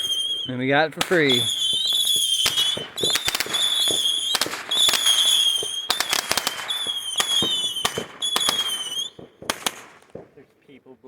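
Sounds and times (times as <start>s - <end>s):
firework whistles: 0.0s - 10.1s
firecracker cracks and pops: 0.0s - 10.5s.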